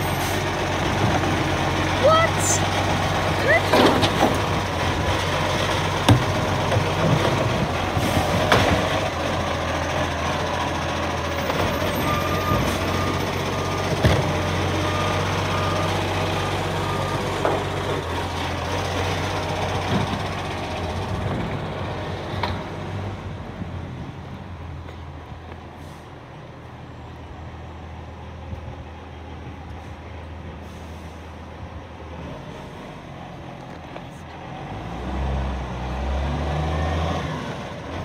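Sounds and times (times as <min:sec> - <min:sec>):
garbage truck running: 0:00.0 - 0:38.0.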